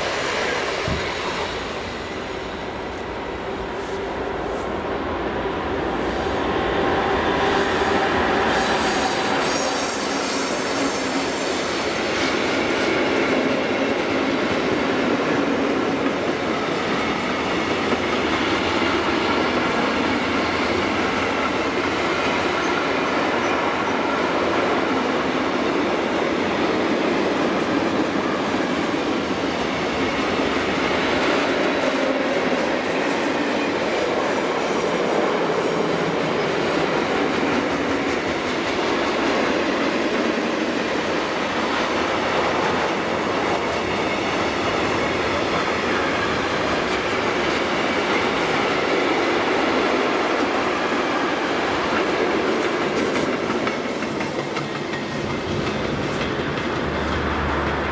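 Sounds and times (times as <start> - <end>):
train wheels on rails: 0.0 - 57.9.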